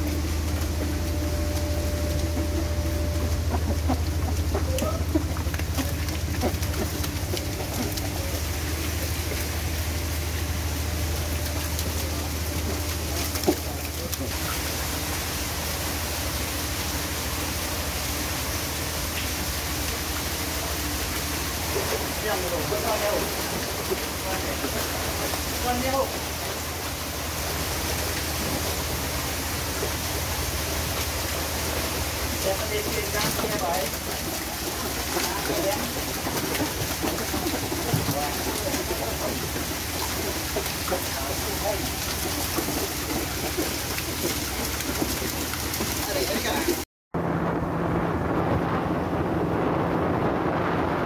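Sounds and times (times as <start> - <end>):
low engine drone: 0.0 - 51.0
water splashing and sloshing: 0.0 - 51.0.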